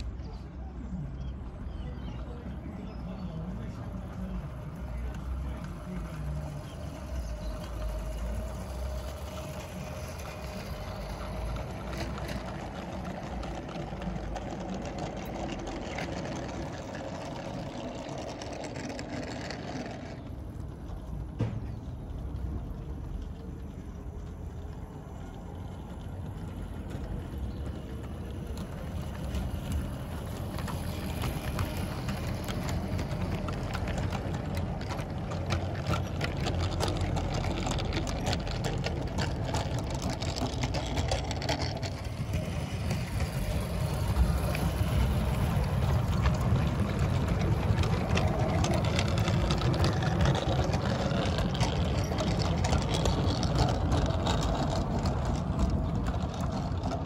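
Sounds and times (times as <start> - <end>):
model train wheels rumbling: 1.0 - 57.0
clicks over rail joints: 3.2 - 57.0.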